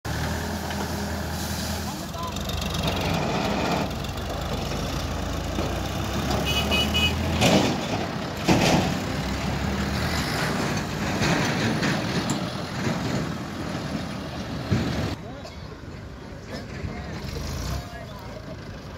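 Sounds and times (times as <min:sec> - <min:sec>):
diesel tractor engines: 0:00.0 - 0:18.9.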